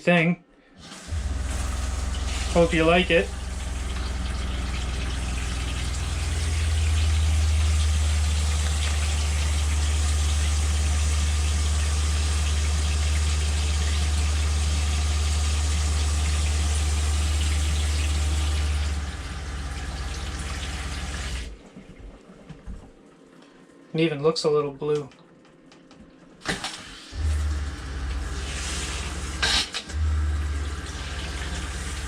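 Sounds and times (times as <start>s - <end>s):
water flowing from tap: 0.8s - 21.6s, 27.0s - 32.0s
water pump humming: 0.8s - 22.8s, 27.0s - 32.0s.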